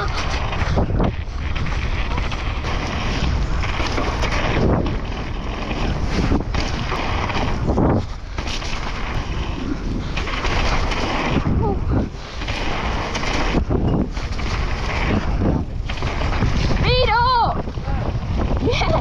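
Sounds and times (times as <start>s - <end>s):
bike rolling over rough ground: 0.0s - 19.0s
wind buffeting microphone: 0.0s - 19.0s.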